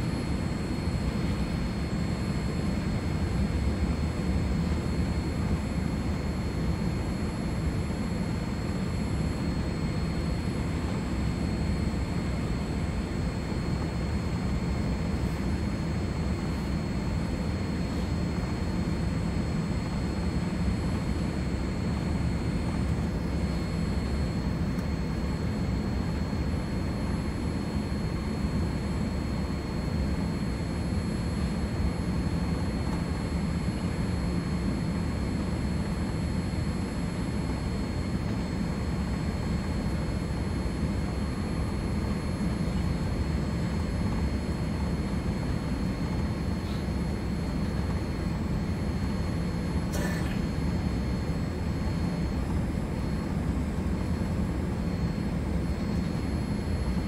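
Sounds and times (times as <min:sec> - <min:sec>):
aircraft engine rumble in cabin: 0:00.0 - 0:57.0
faint high whine: 0:00.0 - 0:57.0.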